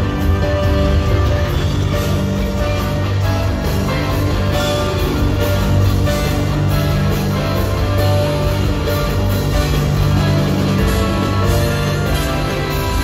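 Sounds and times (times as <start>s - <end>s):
drums: 0.0s - 13.0s
electric guitar: 0.0s - 13.0s
horn section: 0.0s - 13.0s
live rock band: 0.0s - 13.0s.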